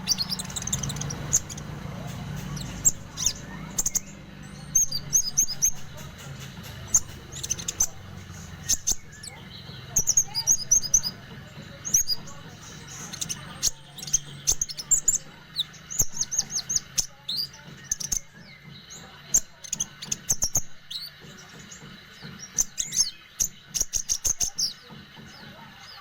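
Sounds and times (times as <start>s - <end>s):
kingfisher high chirps: 0.0s - 26.0s.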